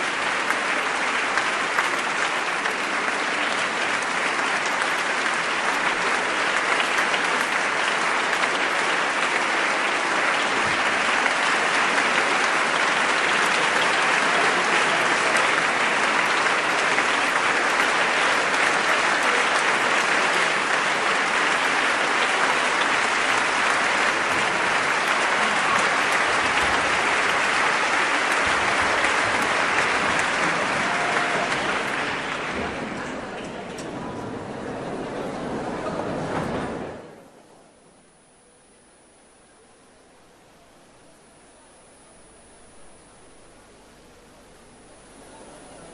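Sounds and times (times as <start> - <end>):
audience applauding: 0.0 - 37.2.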